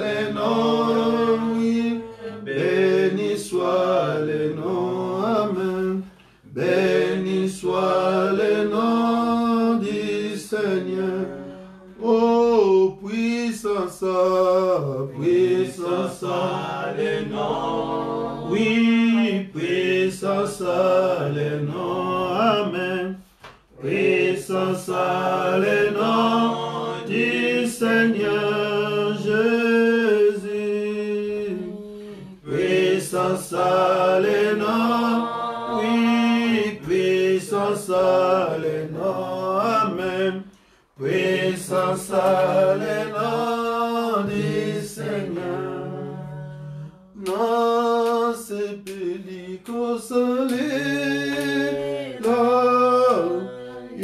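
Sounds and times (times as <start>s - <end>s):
voices singing a hymn: 0.0s - 54.0s.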